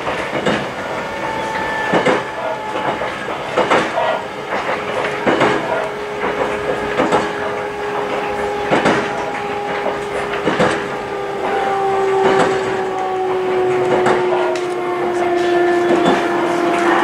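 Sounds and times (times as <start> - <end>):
train wheels clacking over rail joints: 0.0 - 17.0
train whine: 0.0 - 17.0.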